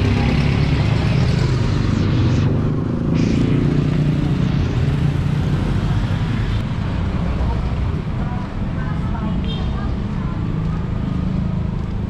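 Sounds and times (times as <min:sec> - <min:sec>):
motor vehicles passing: 0:00.0 - 0:12.0.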